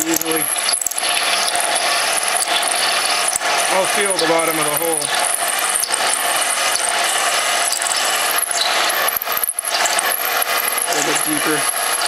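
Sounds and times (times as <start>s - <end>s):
drill cutting into aluminium: 0.0s - 12.0s.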